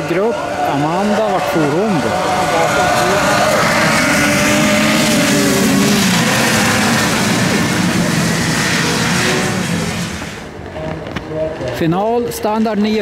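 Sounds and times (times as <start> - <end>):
snowmobile engines at full throttle: 0.0 - 10.5.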